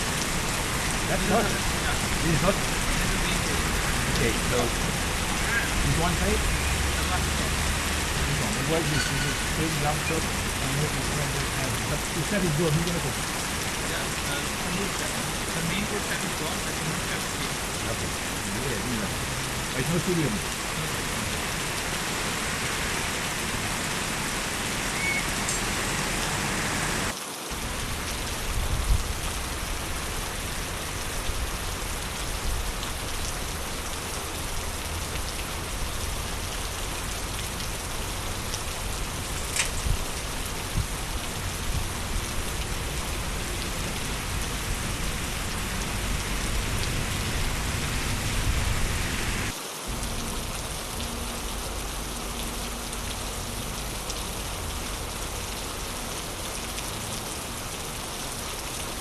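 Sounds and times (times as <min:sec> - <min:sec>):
rain falling on street: 0:00.0 - 0:59.0.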